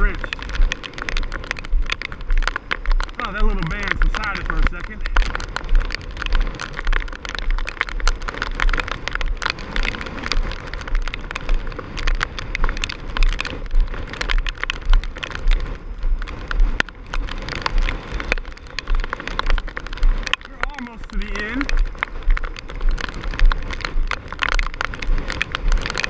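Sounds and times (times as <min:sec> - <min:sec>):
rain pelting: 0:00.0 - 0:26.0
wind buffeting microphone: 0:00.0 - 0:26.0.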